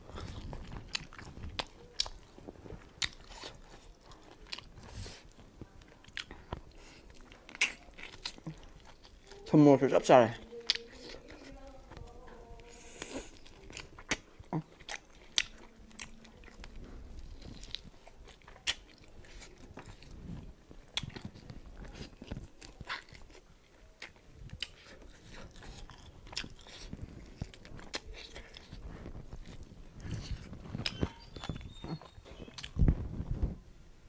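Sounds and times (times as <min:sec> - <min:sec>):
chewing meat on the bone: 0:00.0 - 0:33.1.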